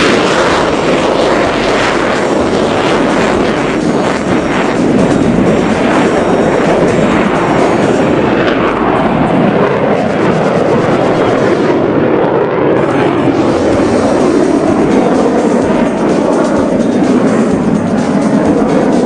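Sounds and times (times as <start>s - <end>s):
jets flying past: 0.0s - 19.0s.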